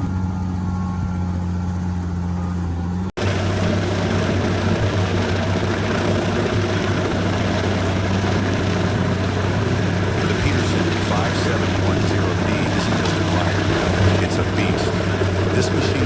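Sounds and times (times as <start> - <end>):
heavy machine engine humming: 0.0 - 16.0
rough machine noise: 0.0 - 16.0.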